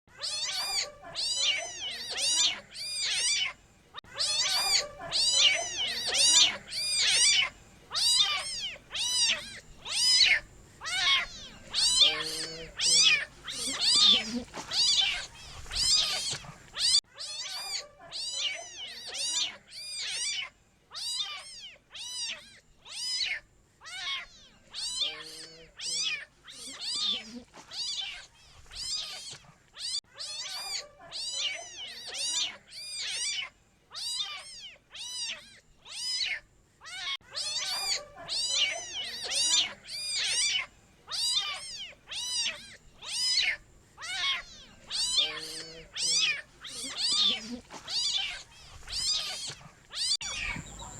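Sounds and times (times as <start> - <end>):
kitten meowing: 0.1 - 50.9.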